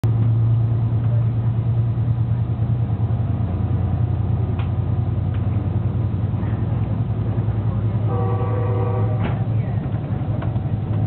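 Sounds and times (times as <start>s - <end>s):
diesel railcar engine droning: 0.0s - 11.0s.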